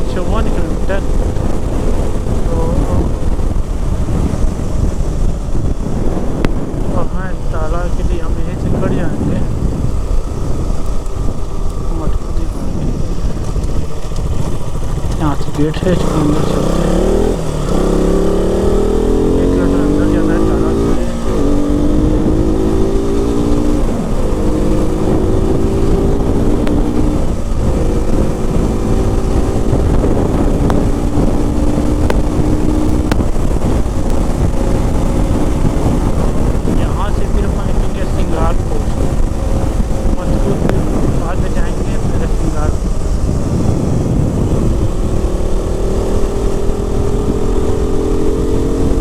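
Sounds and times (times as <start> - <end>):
motorcycle engine running: 0.0 - 49.0
wind rumble on microphone: 0.0 - 49.0.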